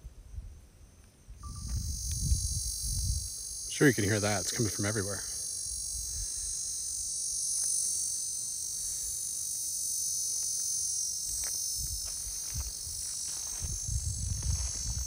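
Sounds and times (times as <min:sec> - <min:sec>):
insects buzzing trill: 0:00.0 - 0:15.0.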